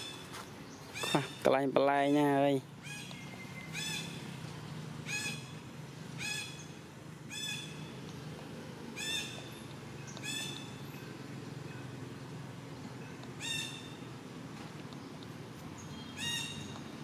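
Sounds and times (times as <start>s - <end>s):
bird calling: 0.0s - 14.2s, 14.9s - 17.0s.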